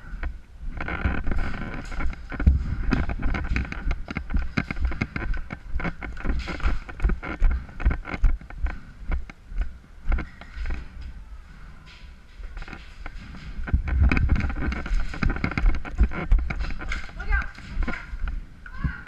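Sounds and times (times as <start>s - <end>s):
knocks and rustles of movement: 0.0s - 19.0s
wind rumbling on microphone: 0.0s - 19.0s.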